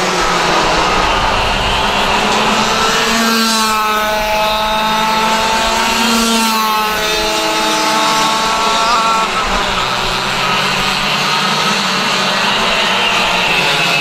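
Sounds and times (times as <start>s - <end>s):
go-kart engines running hard: 0.0s - 14.0s
wind noise: 0.0s - 14.0s.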